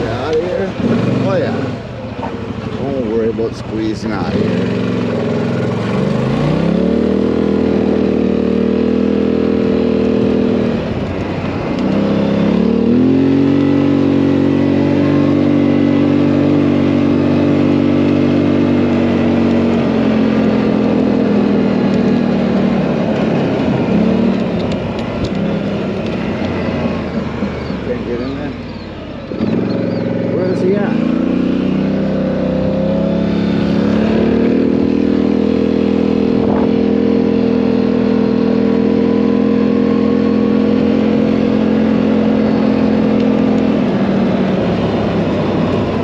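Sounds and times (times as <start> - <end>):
tractor diesel engine revving: 0.0 - 46.0.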